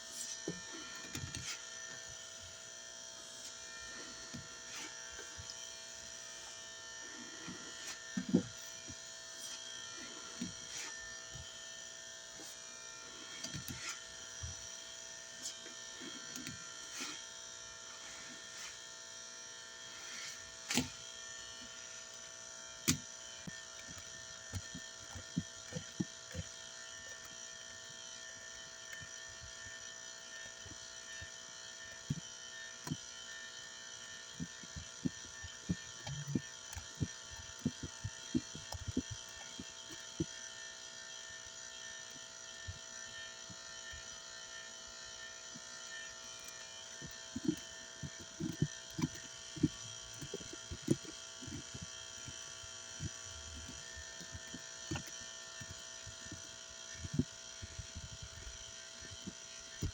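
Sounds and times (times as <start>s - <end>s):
fluorescent light buzzing: 0.0s - 59.9s.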